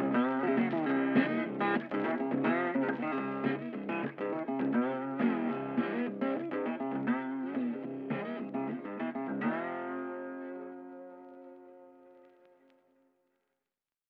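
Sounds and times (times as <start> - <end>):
plucked guitar music: 0.0 - 12.8.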